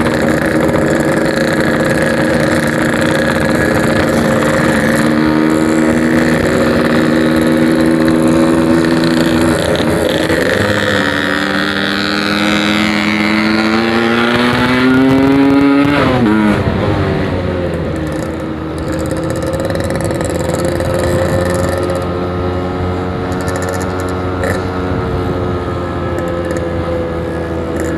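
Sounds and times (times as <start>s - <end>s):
two-stroke motorcycle engine: 0.0s - 27.9s.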